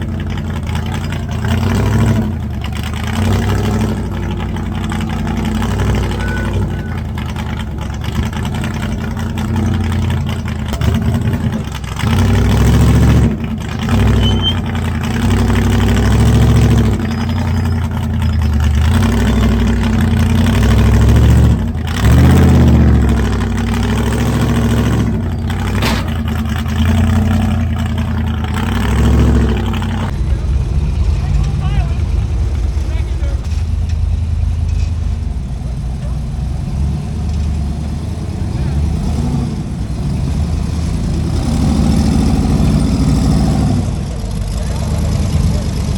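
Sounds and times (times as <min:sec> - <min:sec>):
off-road engine revving: 0:00.0 - 0:45.9.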